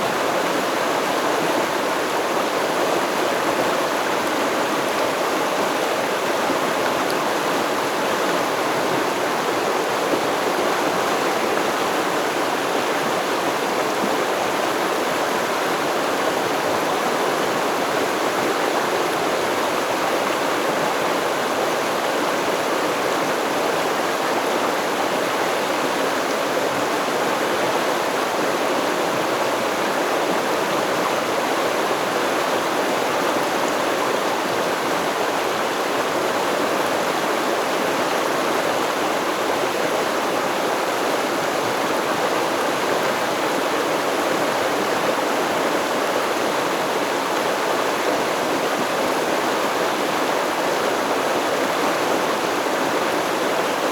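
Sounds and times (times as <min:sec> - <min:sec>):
stream water babbling over rocks: 0:00.0 - 0:53.9.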